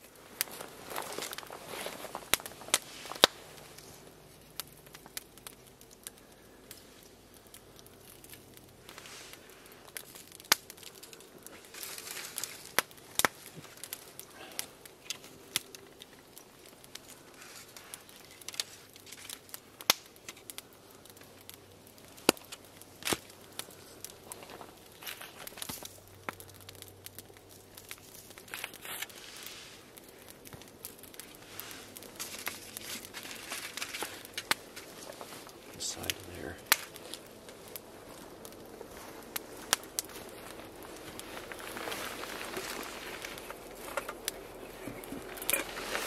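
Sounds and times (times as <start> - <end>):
aluminium foil crinkling: 0.0 - 46.0
campfire crackling and popping: 0.0 - 46.0.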